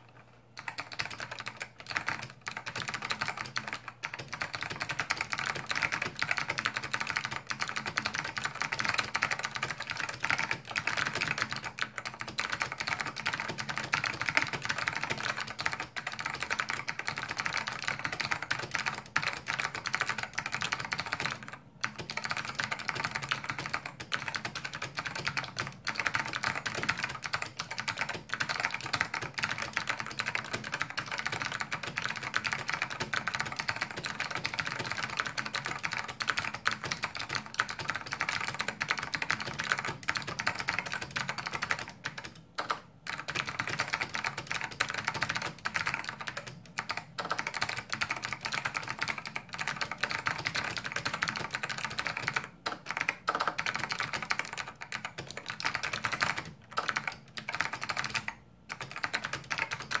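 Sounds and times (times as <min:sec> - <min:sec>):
clicky keyboard typing: 0:00.0 - 1:00.0.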